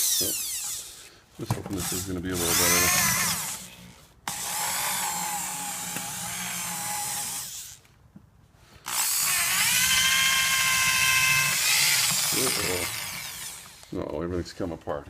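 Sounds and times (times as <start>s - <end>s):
electric drill buffing whine: 0.0s - 1.0s, 1.8s - 7.8s, 8.9s - 14.0s.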